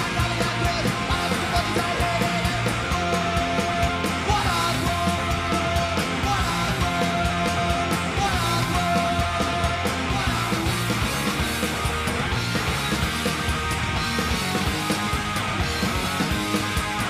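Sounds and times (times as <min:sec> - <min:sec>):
punk rock song with drums: 0:00.0 - 0:17.0.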